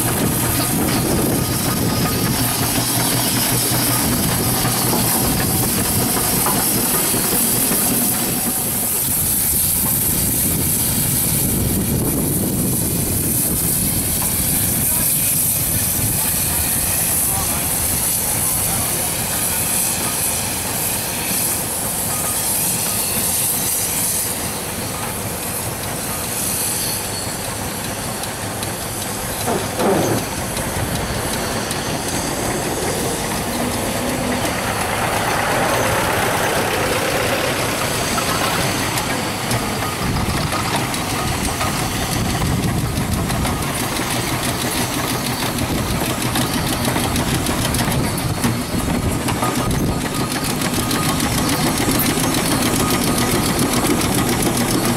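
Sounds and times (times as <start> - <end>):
steam engine running: 0.0 - 54.9
steam hissing: 0.0 - 54.9.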